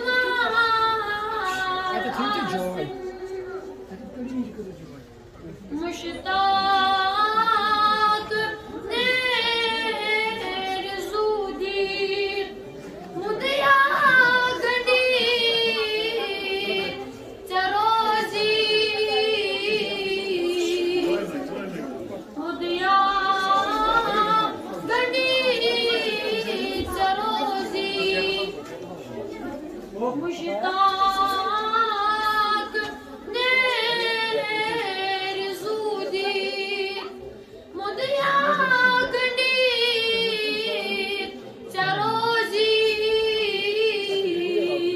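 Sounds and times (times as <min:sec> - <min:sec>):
boy singing unaccompanied: 0:00.0 - 0:03.9, 0:05.7 - 0:12.6, 0:13.2 - 0:28.7, 0:30.0 - 0:37.2, 0:37.8 - 0:44.9.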